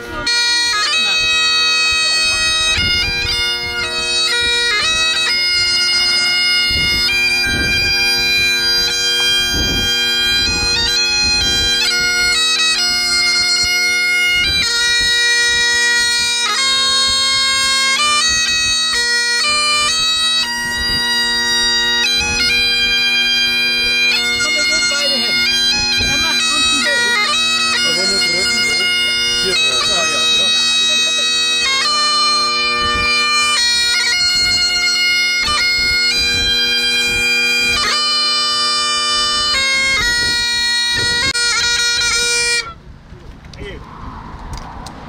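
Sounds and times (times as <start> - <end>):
bagpipes playing: 0.0 - 42.9.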